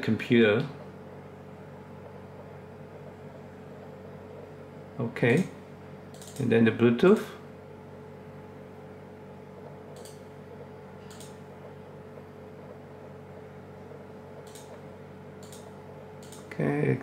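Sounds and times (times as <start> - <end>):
computer hum with held tone: 0.0 - 17.0.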